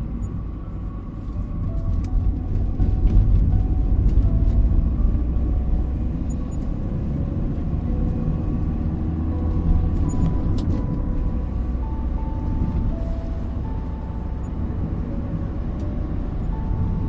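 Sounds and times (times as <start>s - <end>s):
faint soft melody: 0.0s - 17.0s
moving car rumble: 0.0s - 17.0s.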